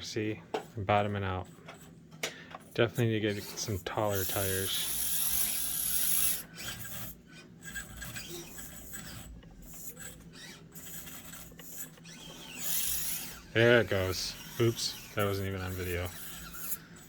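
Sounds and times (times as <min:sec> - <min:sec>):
small electric motor whirring: 0:02.7 - 0:17.0.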